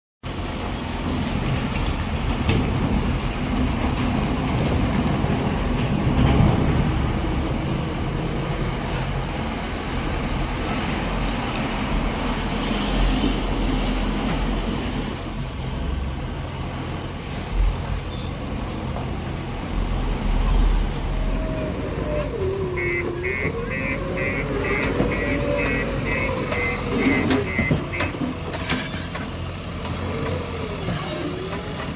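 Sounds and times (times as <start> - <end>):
heavy diesel engines running: 0.3 - 31.9.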